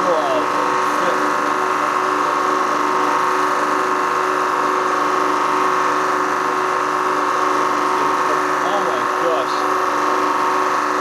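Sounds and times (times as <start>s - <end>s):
hydraulic pump motor droning: 0.0s - 11.0s.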